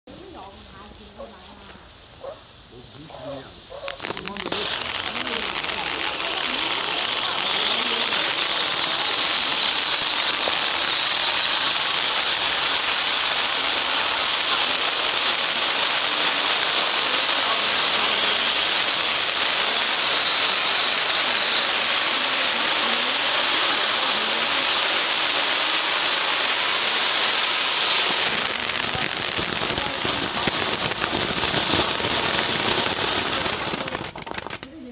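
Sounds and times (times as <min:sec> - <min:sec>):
firework hissing sparks: 0:00.1 - 0:34.8
firework crackling pops: 0:00.1 - 0:34.9.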